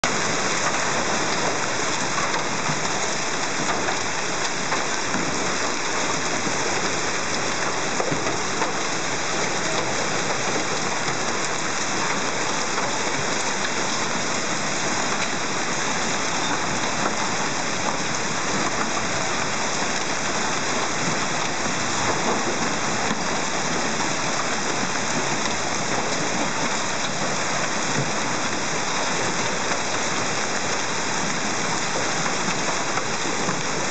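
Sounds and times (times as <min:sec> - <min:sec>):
hail and rain on street and cars: 0:00.0 - 0:33.9.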